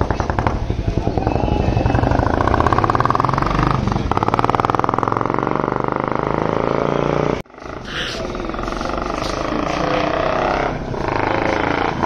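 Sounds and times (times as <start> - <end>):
motorcycle engine pulling away: 0.0 - 12.0.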